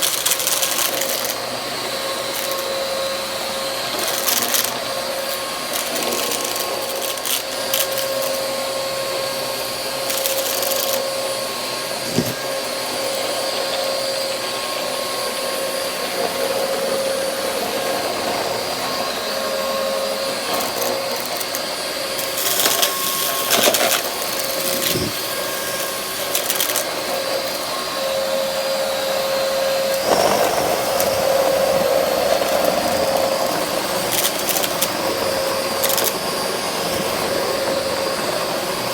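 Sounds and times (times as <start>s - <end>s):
debris rattling in vacuum nozzle: 0.0s - 14.2s, 18.5s - 38.9s
vacuum cleaner motor whine: 0.0s - 38.9s.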